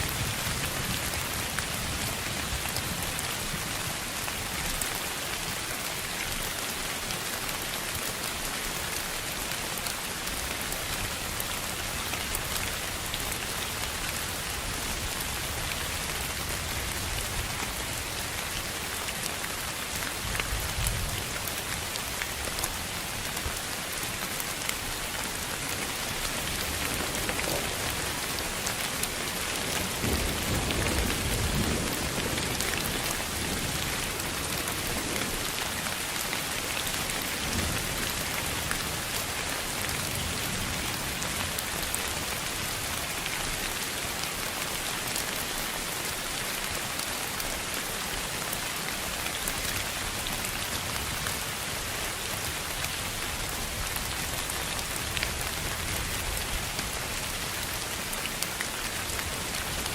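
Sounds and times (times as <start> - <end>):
rain hiss with patter of drops: 0.0 - 59.9.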